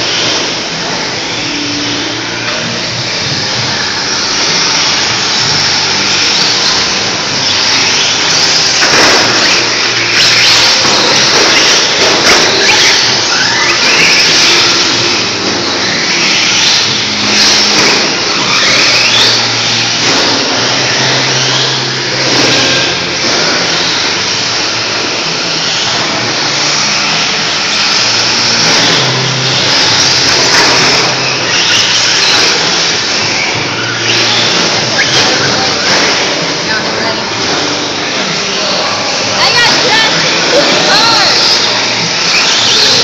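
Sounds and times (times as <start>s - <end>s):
low hum tones: 0.0s - 43.0s
rc buggy driving on dirt: 0.0s - 43.0s.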